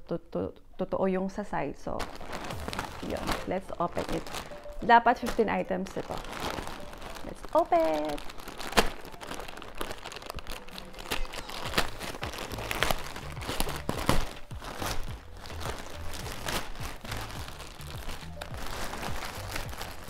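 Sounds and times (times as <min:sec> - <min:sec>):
plastic mailer bag crinkling: 0:01.9 - 0:20.0.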